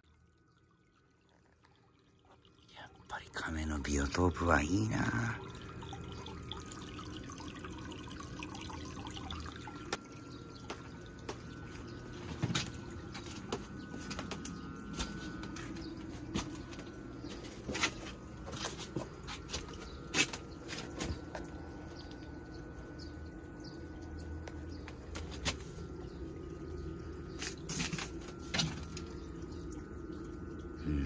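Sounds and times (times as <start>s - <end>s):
water trickling into a pond: 0.0s - 31.0s.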